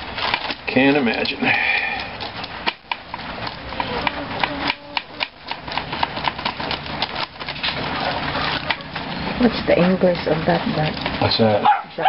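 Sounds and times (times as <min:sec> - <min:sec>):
rapid irregular tapping and knocking: 0:00.0 - 0:11.7.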